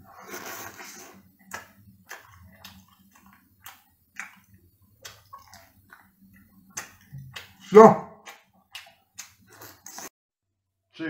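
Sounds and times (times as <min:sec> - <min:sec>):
mouth chewing: 0:00.2 - 0:10.1.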